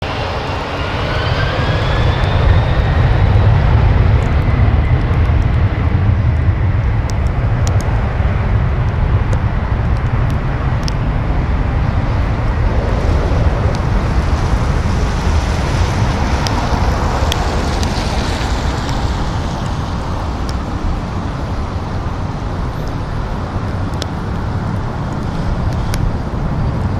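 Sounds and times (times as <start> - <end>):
high engine whine: 0.0 - 26.9
plane engines roaring: 0.0 - 26.9.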